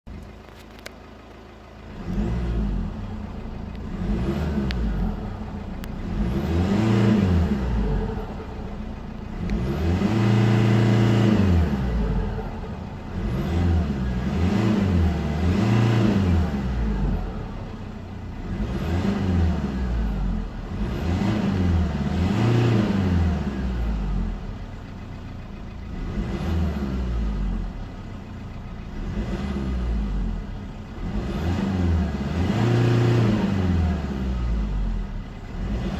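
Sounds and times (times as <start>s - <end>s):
diesel engine revving: 0.1s - 35.9s.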